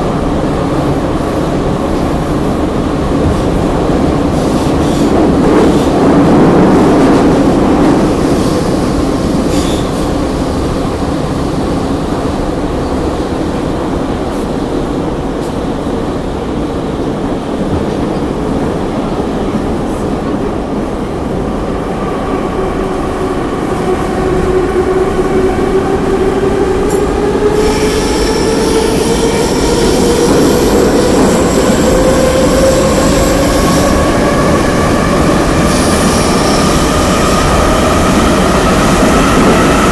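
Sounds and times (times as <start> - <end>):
metro train rumble: 0.0 - 39.9
train whine: 0.0 - 39.9.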